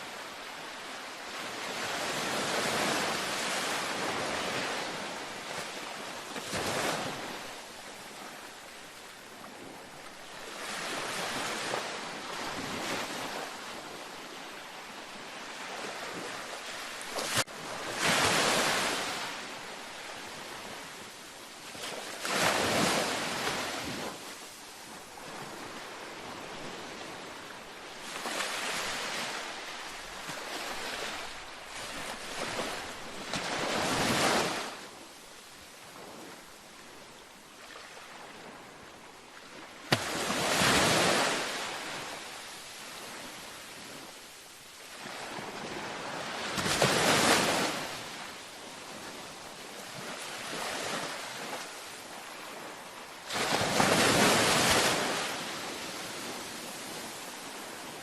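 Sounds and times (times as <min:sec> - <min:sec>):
ocean waves breaking: 0:00.1 - 0:35.0, 0:37.6 - 0:44.1, 0:44.8 - 0:58.0.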